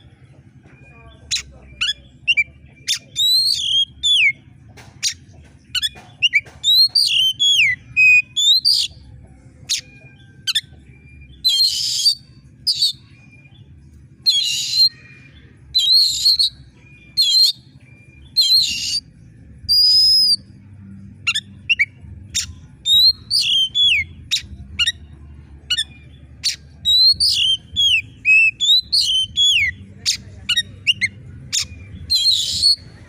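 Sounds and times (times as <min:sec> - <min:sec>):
harsh rasping bird calls: 0:00.0 - 0:09.0, 0:09.6 - 0:20.5, 0:21.2 - 0:33.0
songbird whistled song: 0:00.0 - 0:33.0.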